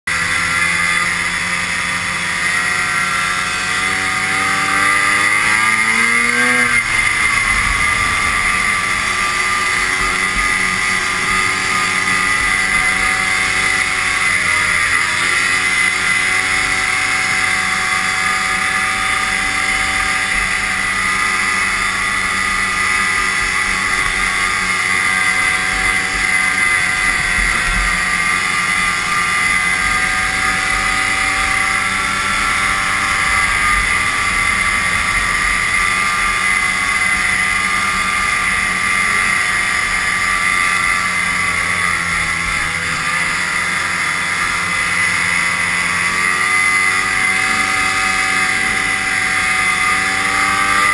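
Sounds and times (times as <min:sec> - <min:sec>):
snowmobile engine running: 0:00.0 - 0:50.9
snowmobile track noise: 0:00.0 - 0:50.9
wind: 0:00.1 - 0:50.9.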